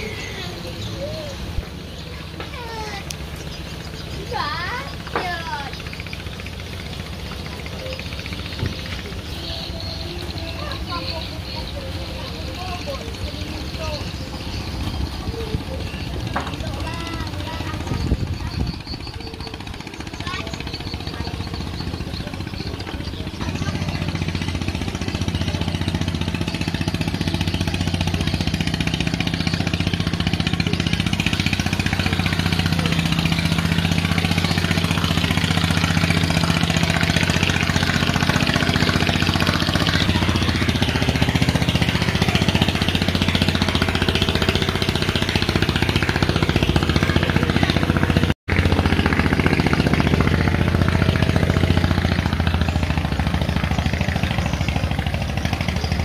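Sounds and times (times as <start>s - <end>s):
speedboat engine droning: 0.0s - 56.0s.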